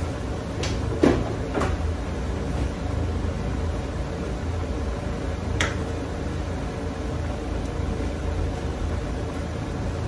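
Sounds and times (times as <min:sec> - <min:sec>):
rice boiling hard: 0:00.0 - 0:10.0.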